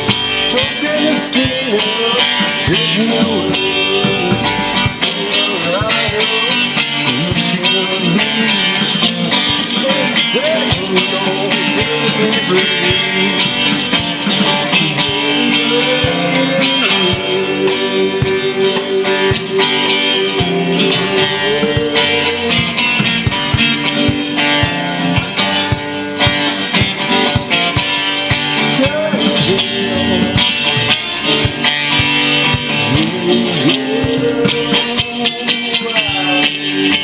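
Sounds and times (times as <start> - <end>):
sustained lead guitar note: 0.0 - 7.8, 8.6 - 37.0
steady rock beat: 0.0 - 37.0
strummed guitars: 0.0 - 37.0.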